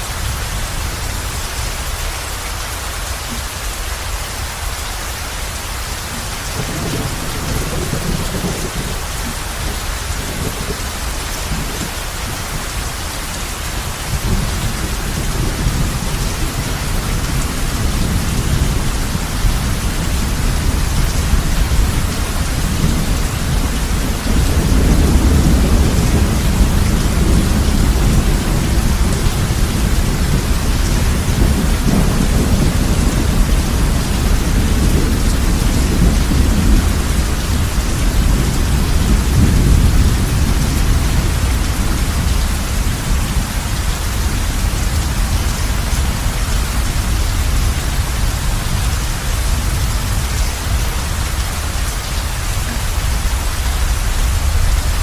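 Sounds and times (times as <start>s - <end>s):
heavy rain on a roof: 0.0s - 55.0s
thunder rumbling: 5.8s - 55.0s.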